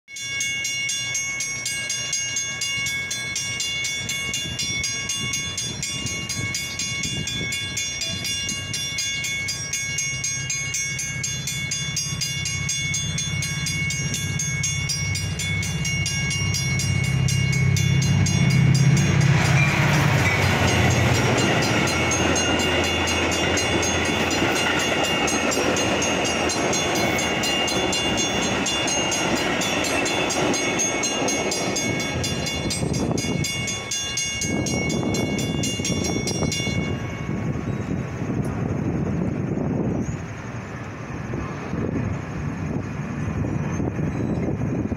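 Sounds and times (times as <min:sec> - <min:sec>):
crossing warning bells ringing: 0:00.1 - 0:44.9
train rumbling and rushing past: 0:00.2 - 0:44.9.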